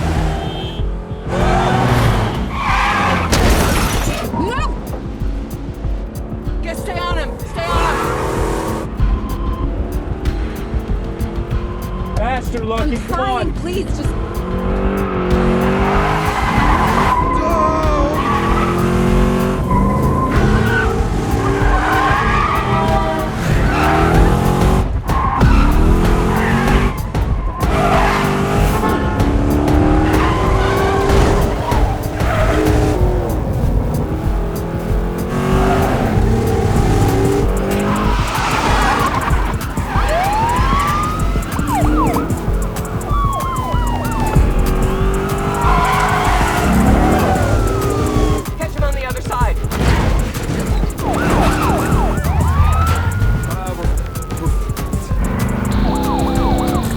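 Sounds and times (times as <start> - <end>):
car engines revving: 0.0 - 56.9
tyres squealing and skidding: 0.0 - 56.9.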